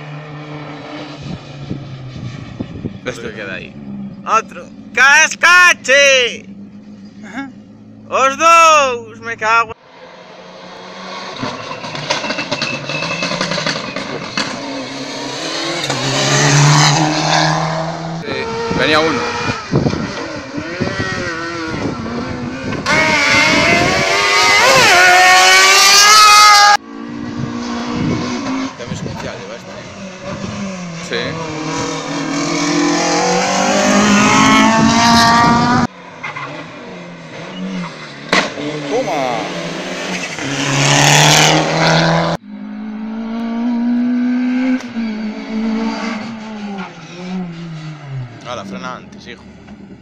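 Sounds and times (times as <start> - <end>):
rally car engine accelerating: 0.0 - 5.3, 9.8 - 50.0.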